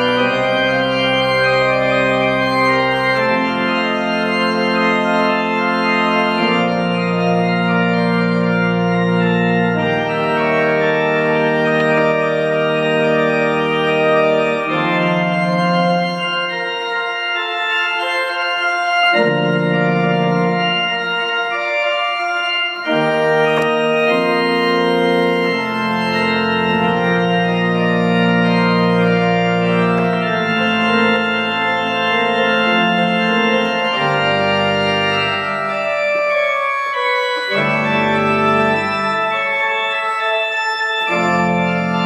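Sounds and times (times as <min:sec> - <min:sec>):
organ pedal bass line: 0:00.0 - 0:42.0
organ playing sustained chords: 0:00.0 - 0:42.0.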